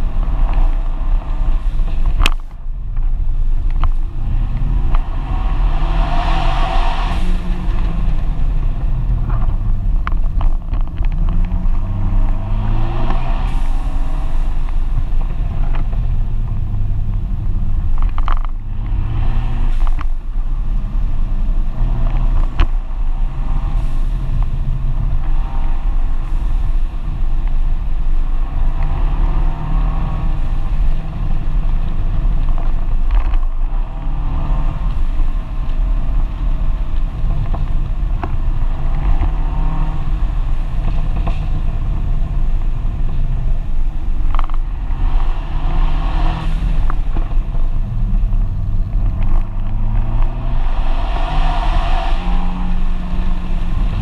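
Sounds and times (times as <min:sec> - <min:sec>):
wind rushing: 0:00.0 - 0:43.2, 0:43.8 - 0:54.0
car engine accelerating: 0:00.0 - 0:54.0.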